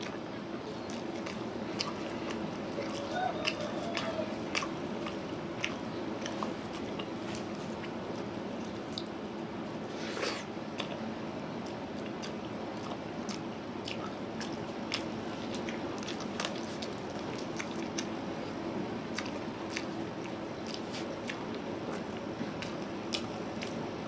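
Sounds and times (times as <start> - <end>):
wet chewing sounds: 0.0 - 9.2, 9.9 - 11.0, 11.6 - 23.8.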